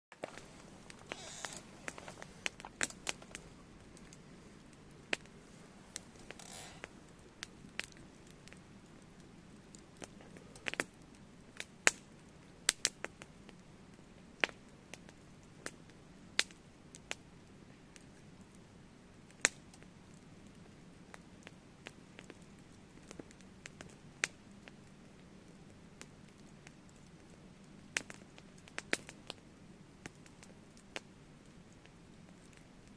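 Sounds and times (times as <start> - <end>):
fire popping: 0.1 - 32.9
low burning noise: 0.1 - 32.9
wood fire crackling: 0.1 - 32.9.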